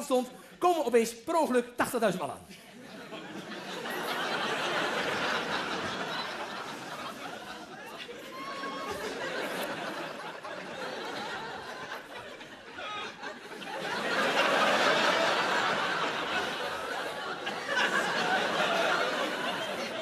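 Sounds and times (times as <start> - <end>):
audience laughing: 2.5 - 20.0.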